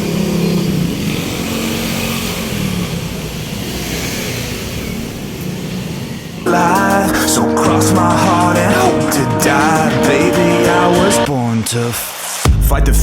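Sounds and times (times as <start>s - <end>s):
road noise: 0.0s - 11.4s.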